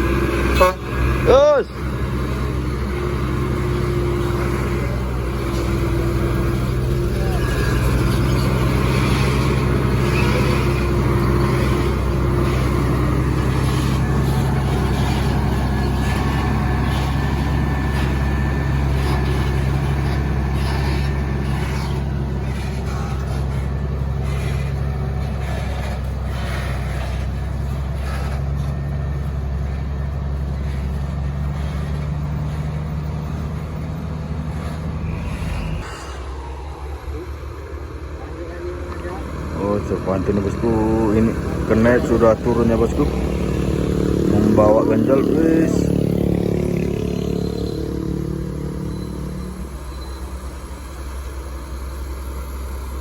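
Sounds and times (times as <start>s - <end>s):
diesel truck engine droning: 0.0s - 53.0s.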